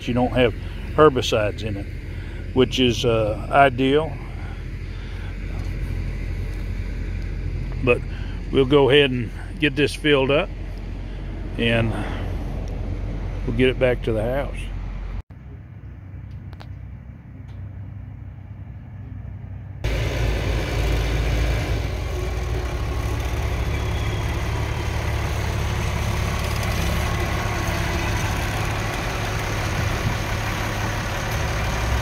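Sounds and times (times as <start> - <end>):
distant machine hum: 0.0 - 32.0
tractor diesel engine running: 0.0 - 32.0.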